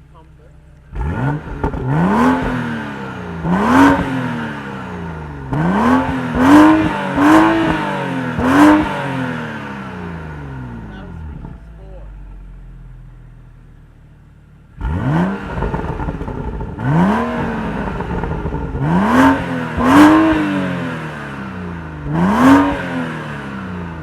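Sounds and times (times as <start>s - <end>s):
car engine idling: 0.0s - 24.0s
car engine revving: 0.0s - 24.0s.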